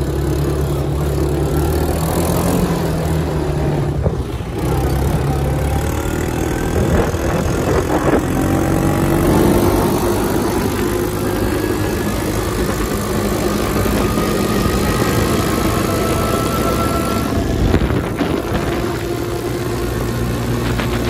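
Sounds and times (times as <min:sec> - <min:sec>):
quad bike engine running: 0:00.0 - 0:21.0
rushing noise: 0:03.9 - 0:21.0.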